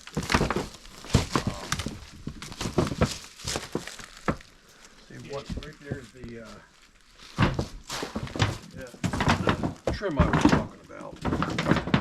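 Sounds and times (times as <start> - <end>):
footsteps crunching over debris: 0.0 - 12.0.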